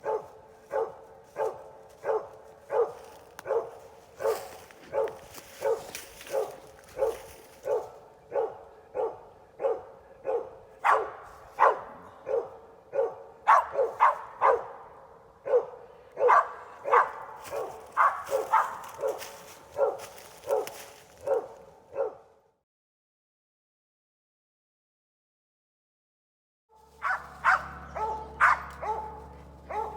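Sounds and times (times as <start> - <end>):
dog barking: 0.0 - 22.4, 26.8 - 29.9.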